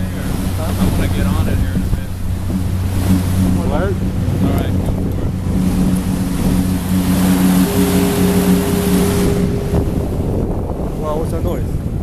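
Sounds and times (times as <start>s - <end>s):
motorboat engine humming: 0.0s - 12.0s
rush of wind and water: 0.0s - 12.0s.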